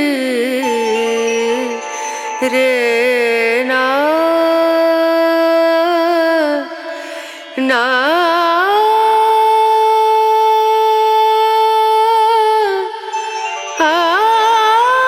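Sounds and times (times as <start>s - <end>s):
indian classical melody: 0.0s - 15.0s.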